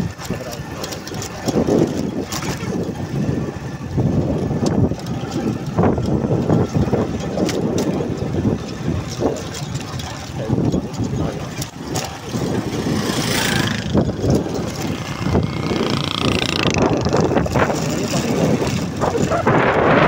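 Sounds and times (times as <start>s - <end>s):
motorcycle engine rumble: 0.0s - 20.0s
wind noise on microphone: 0.0s - 20.0s.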